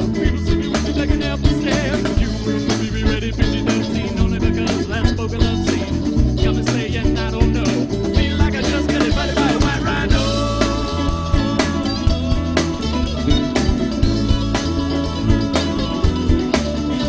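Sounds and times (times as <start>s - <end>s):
live band playing: 0.0s - 17.0s
steady drum beat: 0.0s - 17.0s.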